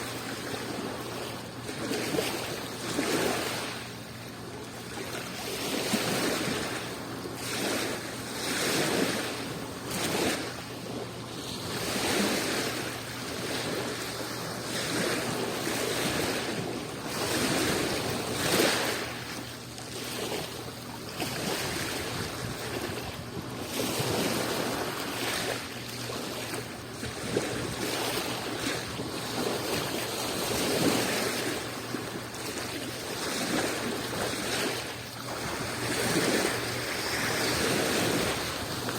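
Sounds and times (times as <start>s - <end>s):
sea waves washing in: 0.0s - 38.9s.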